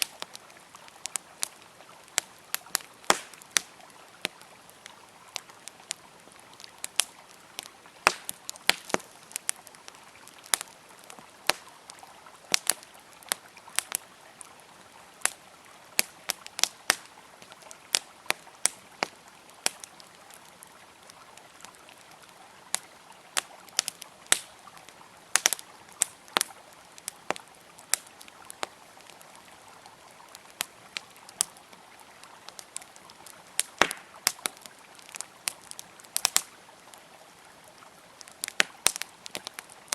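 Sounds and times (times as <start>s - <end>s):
campfire crackling: 0.0s - 39.9s
river flowing: 0.0s - 39.9s.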